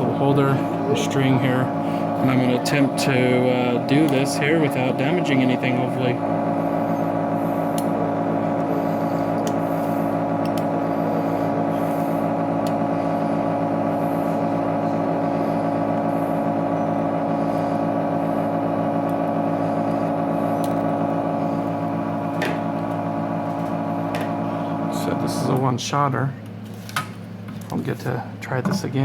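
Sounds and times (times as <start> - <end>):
machine pump humming: 0.0 - 29.0.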